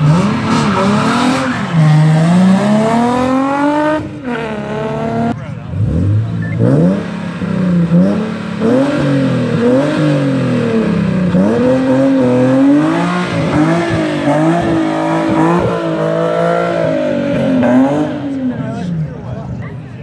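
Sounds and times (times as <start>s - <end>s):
car engine revving: 0.0s - 19.3s.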